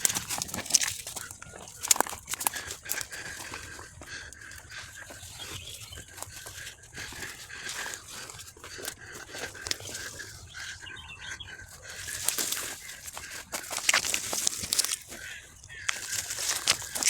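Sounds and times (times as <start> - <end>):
footsteps through rustling undergrowth: 0.0 - 17.0.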